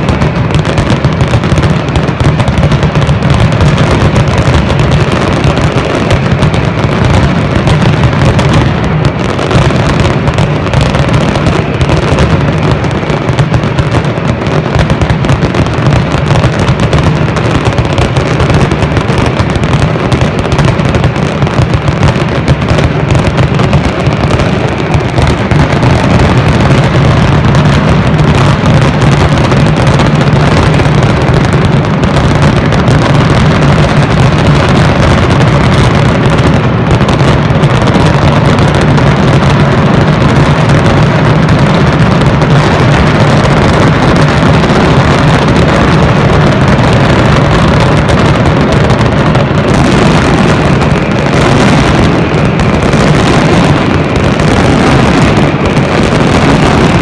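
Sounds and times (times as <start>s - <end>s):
firecrackers banging: 0.0s - 57.0s.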